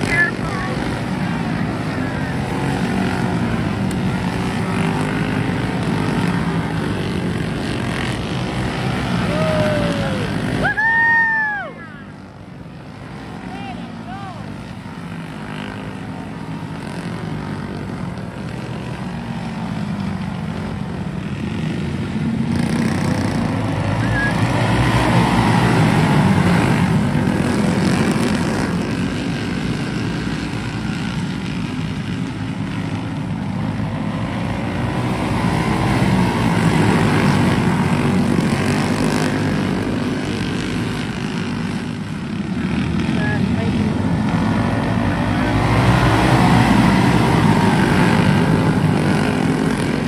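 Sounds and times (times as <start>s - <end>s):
go-kart engines droning: 0.0s - 50.0s.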